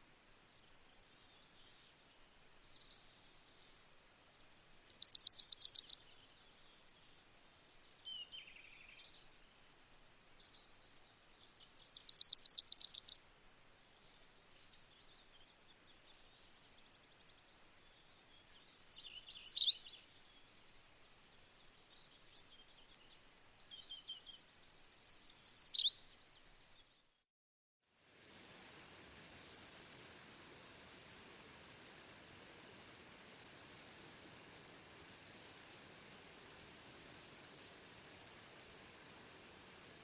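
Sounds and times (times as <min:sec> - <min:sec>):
faint soft bird notes: 0:00.0 - 0:04.0, 0:04.8 - 0:27.2, 0:28.3 - 0:40.0.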